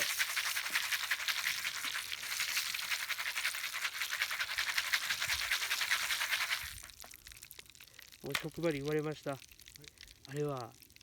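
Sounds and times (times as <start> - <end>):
popcorn crackling in a pan: 0.0 - 11.0.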